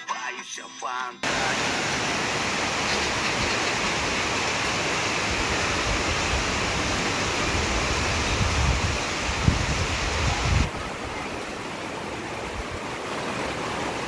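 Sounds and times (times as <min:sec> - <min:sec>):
heavy rain pouring: 0:01.2 - 0:14.0
wind rumbling on microphone: 0:02.2 - 0:14.0.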